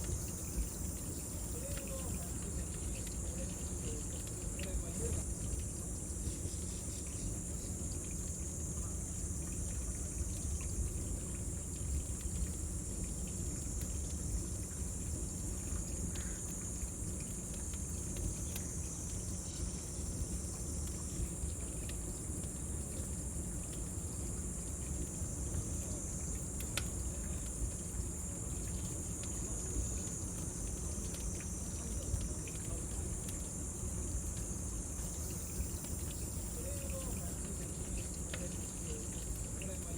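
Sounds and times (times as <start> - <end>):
cicadas droning: 0.0 - 39.9
faint fire crackles: 0.0 - 39.9.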